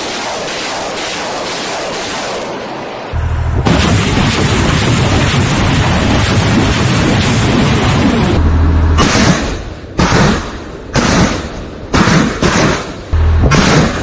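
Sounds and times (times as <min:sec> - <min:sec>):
rocket launcher firing: 0:00.0 - 0:14.0.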